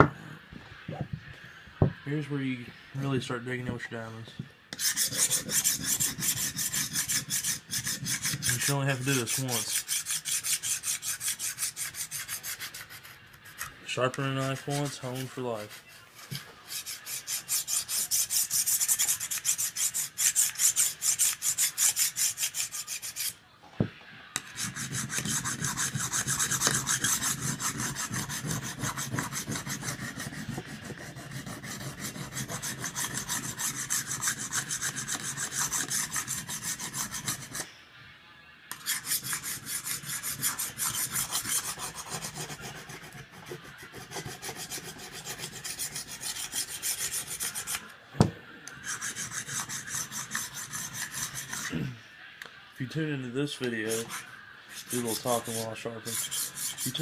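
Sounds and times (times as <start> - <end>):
knife scraping on sharpening stone: 4.7 - 23.4, 24.4 - 37.7, 38.7 - 47.8, 48.8 - 51.8, 53.9 - 57.0.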